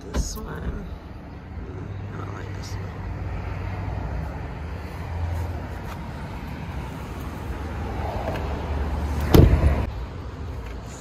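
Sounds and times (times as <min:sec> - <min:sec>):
outdoor noise: 0:00.0 - 0:11.0.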